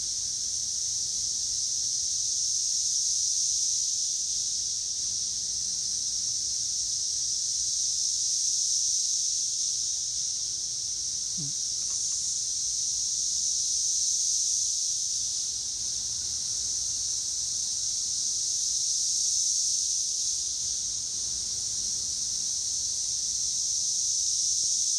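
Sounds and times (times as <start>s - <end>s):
cicadas buzzing: 0.0s - 24.9s.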